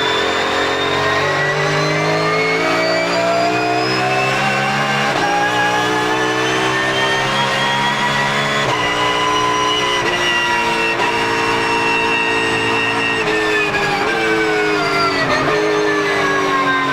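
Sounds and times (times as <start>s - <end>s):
gear whine rising in pitch: 0.0s - 16.9s
race car engine accelerating: 0.0s - 16.9s.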